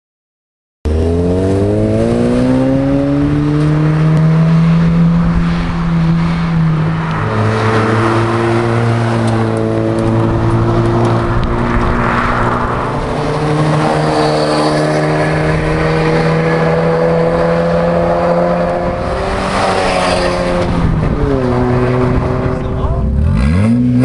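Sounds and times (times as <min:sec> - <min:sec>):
car sport exhaust revving: 0:00.9 - 0:24.0.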